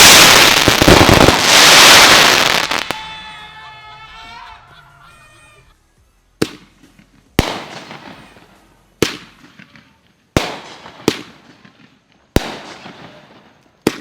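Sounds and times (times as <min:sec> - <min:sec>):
fireworks bangs: 0:00.0 - 0:03.6, 0:06.4 - 0:14.0.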